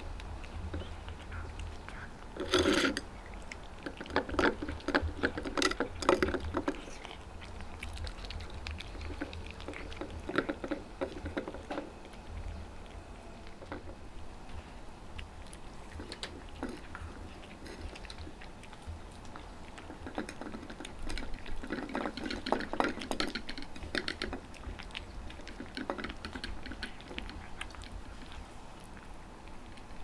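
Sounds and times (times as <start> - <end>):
cats crunching treats: 0.0 - 30.0
teeth clicking against metal bowl: 0.6 - 11.9, 15.2 - 28.0.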